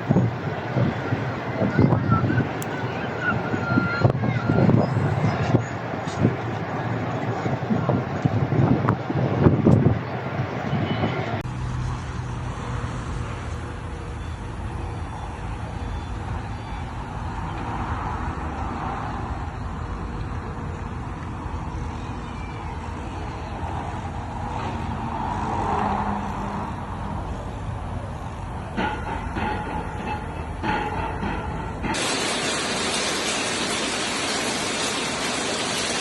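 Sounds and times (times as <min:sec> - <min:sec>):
traffic rumble: 0:00.0 - 0:36.0
vehicles passing: 0:00.0 - 0:36.0.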